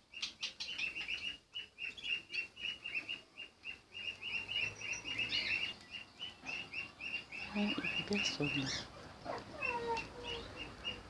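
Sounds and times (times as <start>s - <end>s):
cage birds chirping: 0.0s - 11.0s.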